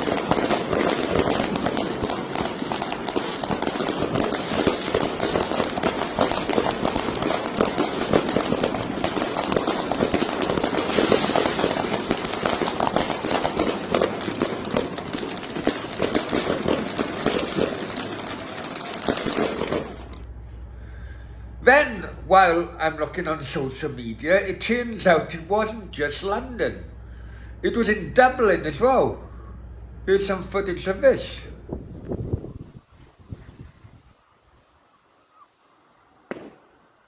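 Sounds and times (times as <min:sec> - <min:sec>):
fireworks crackling: 0:00.0 - 0:29.4, 0:30.0 - 0:37.0.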